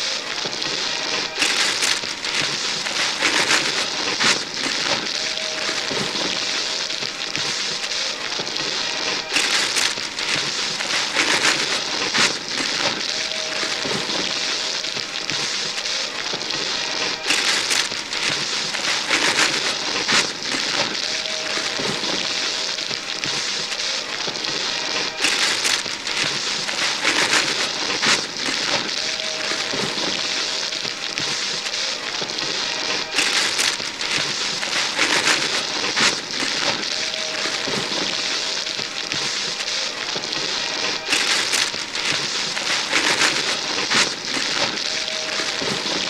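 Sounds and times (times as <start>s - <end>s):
paper ripping: 0.0s - 46.0s
wrapping paper rustling: 0.0s - 46.0s.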